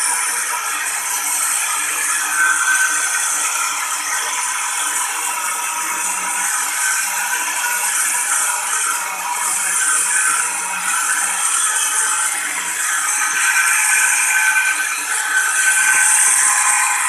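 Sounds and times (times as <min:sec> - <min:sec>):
electric grater grinding rattle: 0:00.0 - 0:17.0.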